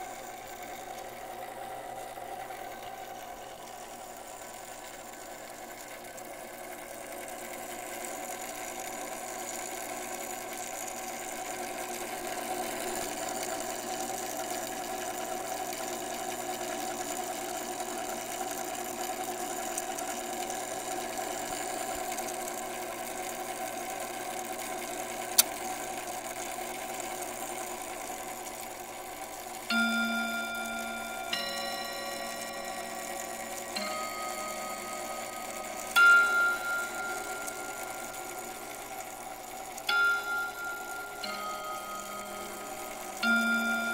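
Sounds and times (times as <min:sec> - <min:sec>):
clock mechanical hum: 0:00.0 - 0:43.9.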